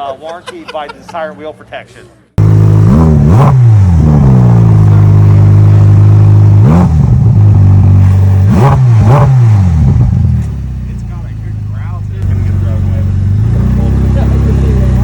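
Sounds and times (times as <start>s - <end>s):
car engine revving: 2.4s - 15.0s.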